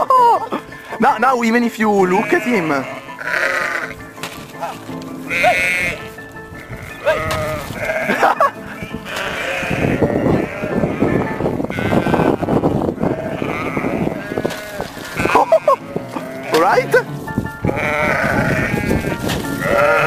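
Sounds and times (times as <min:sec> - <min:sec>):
background music: 0:00.0 - 0:20.0
animal bleating: 0:02.0 - 0:20.0.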